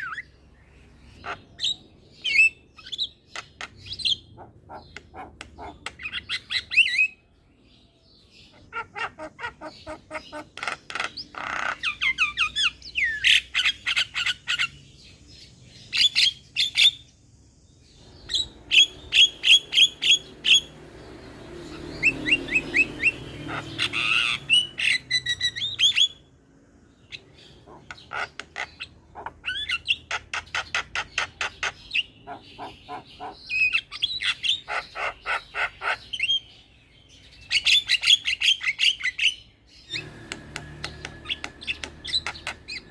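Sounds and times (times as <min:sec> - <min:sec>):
bird chirping and squawking: 0:00.0 - 0:17.1, 0:17.8 - 0:26.3, 0:26.9 - 0:42.9.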